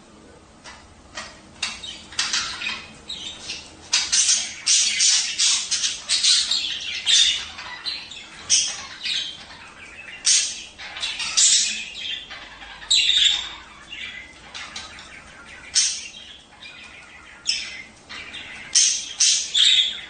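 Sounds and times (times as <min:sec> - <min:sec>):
budgerigars chattering: 0:00.6 - 0:20.0.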